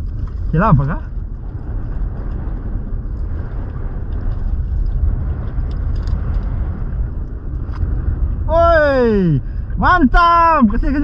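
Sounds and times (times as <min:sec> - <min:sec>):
water noise: 0:00.0 - 0:11.0
wind rumble: 0:00.0 - 0:11.0.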